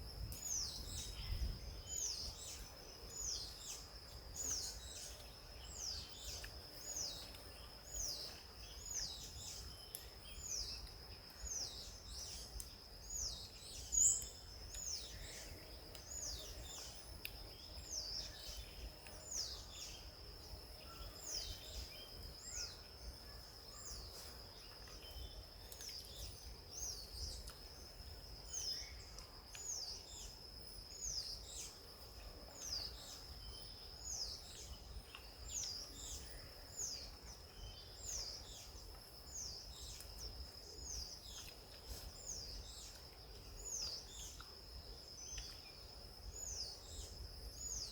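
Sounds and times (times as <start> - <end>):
bird chirp: 0.0 - 47.9.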